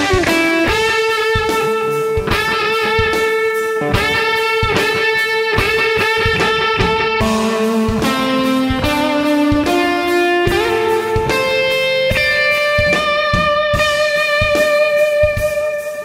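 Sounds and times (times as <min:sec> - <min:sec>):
electric guitar holding note: 0:00.0 - 0:16.0
percussive beat: 0:00.0 - 0:16.0.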